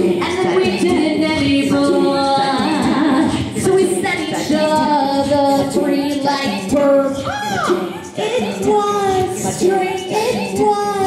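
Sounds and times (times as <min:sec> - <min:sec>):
layered female vocals: 0:00.0 - 0:11.0.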